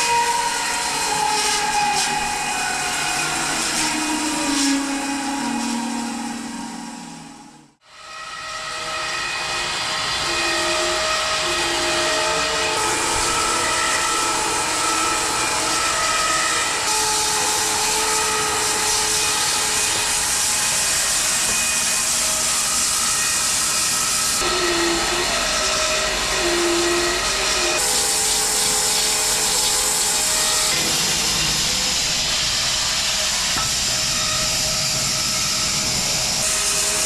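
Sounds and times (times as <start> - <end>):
bandsaw blade sawing log: 0.0 - 6.8, 9.1 - 32.4.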